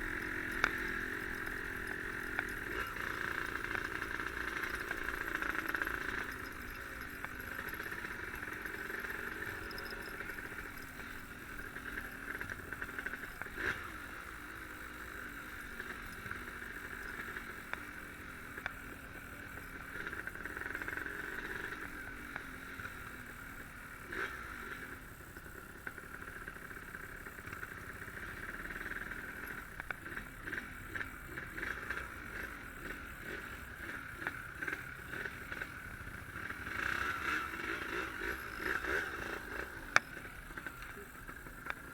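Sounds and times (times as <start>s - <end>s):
two-stroke motorcycle engine: 0.0s - 41.9s.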